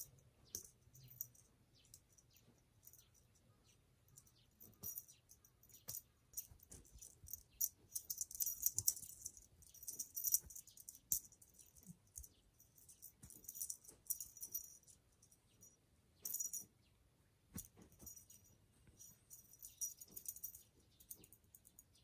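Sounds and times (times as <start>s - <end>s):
metal tag jingling and rattling: 0.0s - 16.7s, 17.5s - 22.0s.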